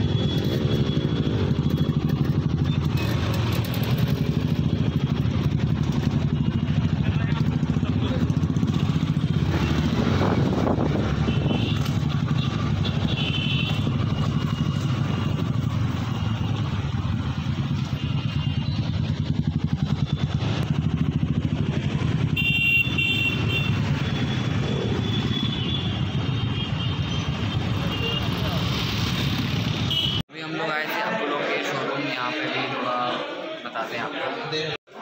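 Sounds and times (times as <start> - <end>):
motorcycle engines running: 0.0 - 30.2.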